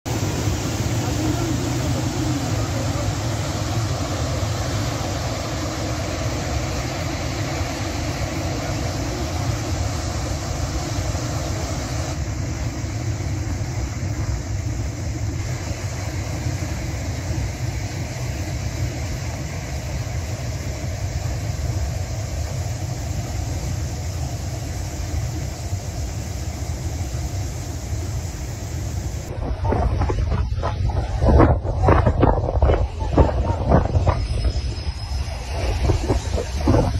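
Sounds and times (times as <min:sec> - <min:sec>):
muddy torrent rushing: 0:00.0 - 0:36.9.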